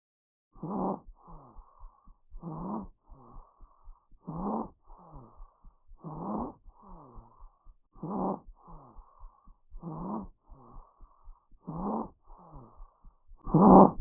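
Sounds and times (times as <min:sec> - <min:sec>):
wheezing breath sounds: 0:00.6 - 0:14.0.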